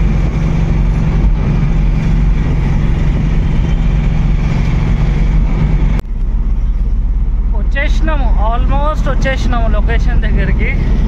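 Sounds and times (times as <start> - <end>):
low pulsing drone: 0.0 - 11.0
vehicle engine humming: 0.0 - 11.0.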